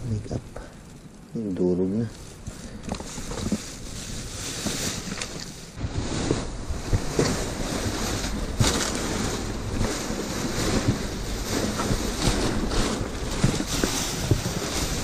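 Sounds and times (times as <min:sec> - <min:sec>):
plastic bags rustling: 0:02.0 - 0:15.0.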